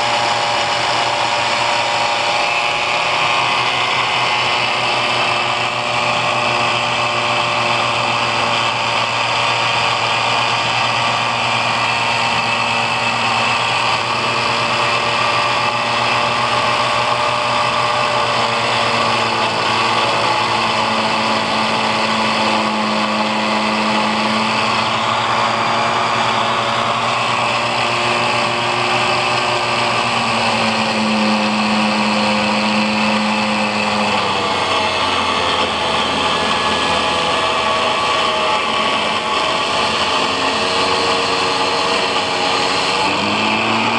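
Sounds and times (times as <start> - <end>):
angle grinder motor running: 0.0 - 43.9.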